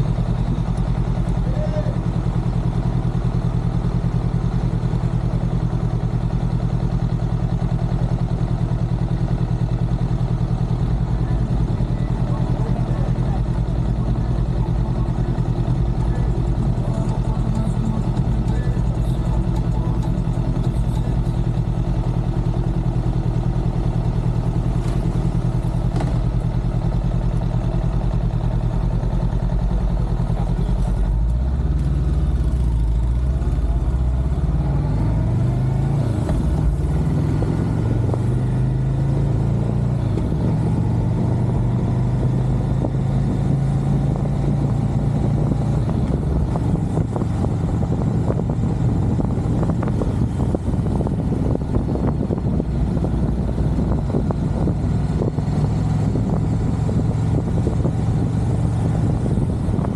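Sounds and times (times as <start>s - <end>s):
motorcycle accelerating: 0.0s - 59.9s
motorcycle engine idling: 0.0s - 59.9s.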